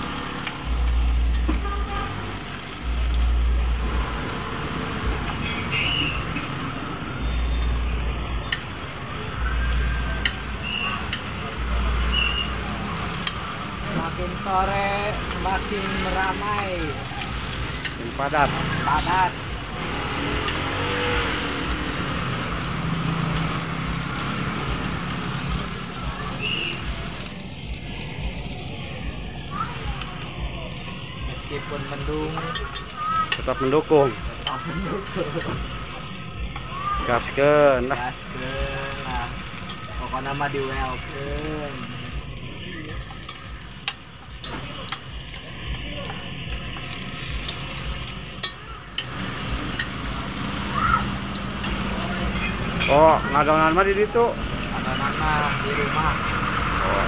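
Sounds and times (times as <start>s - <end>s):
vehicle engine running: 0.0s - 36.6s, 38.0s - 57.0s
food sizzling in a pan: 0.0s - 57.0s.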